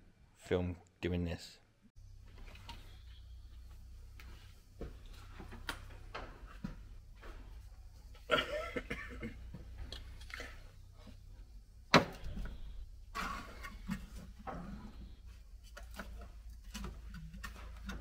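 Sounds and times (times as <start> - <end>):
steady low hum: 2.0 - 18.0.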